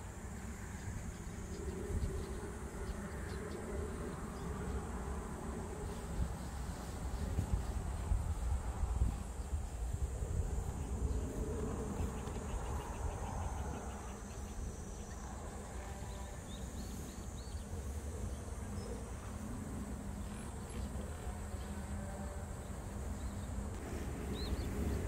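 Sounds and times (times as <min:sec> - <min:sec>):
high-pitched insect drone: 0:00.0 - 0:25.0
low wind rumble: 0:00.0 - 0:25.0.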